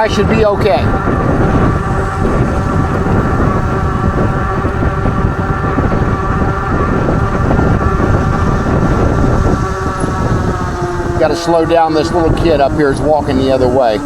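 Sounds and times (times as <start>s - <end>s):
electric hub motor whining: 0.0s - 14.0s
wind buffeting microphone: 0.0s - 14.0s.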